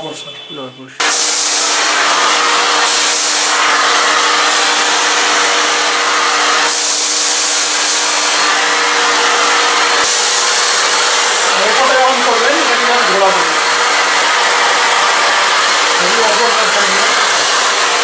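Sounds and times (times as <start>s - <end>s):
vacuum cleaner running: 1.0s - 18.0s.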